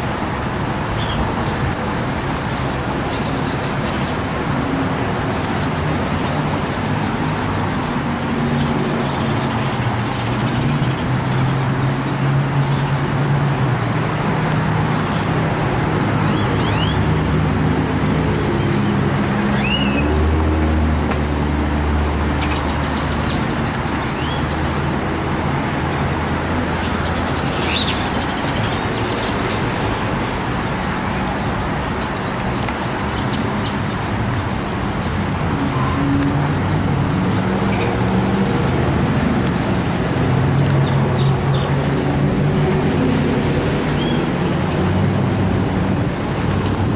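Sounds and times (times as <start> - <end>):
steady background noise: 0.0 - 46.9.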